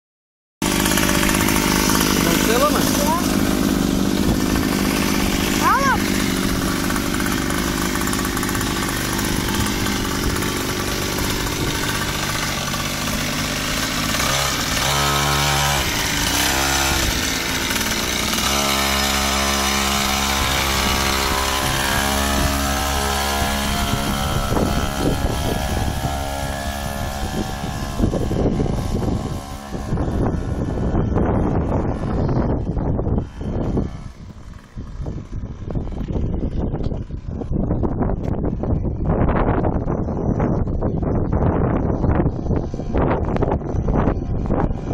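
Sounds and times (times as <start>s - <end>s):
small engine revving: 0.6s - 39.6s.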